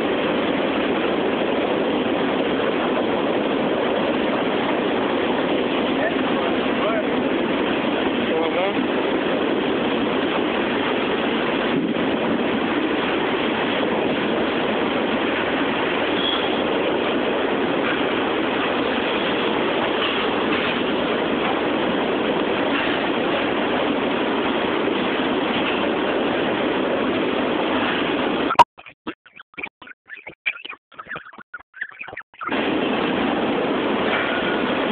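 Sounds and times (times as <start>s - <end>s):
train wheels on rail: 0.0s - 28.4s, 32.9s - 34.9s.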